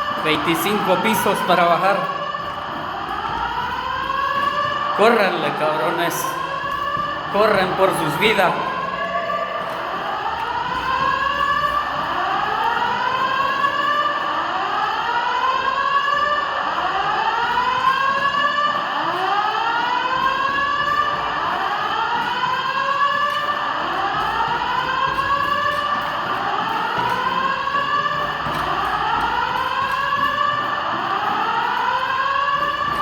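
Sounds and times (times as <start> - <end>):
fire alarm rising sweep tone: 0.0 - 33.0.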